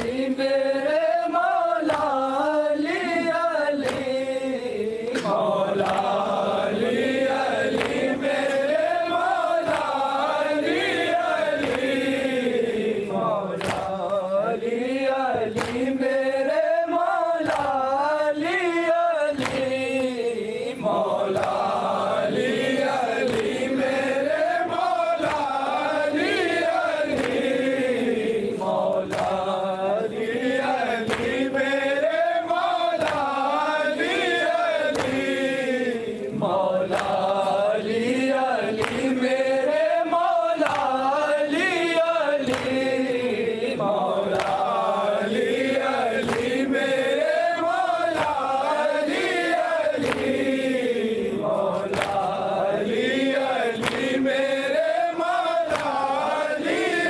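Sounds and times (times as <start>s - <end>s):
men chanting in chorus: 0.0s - 57.0s
sharp rhythmic beats: 0.0s - 57.0s.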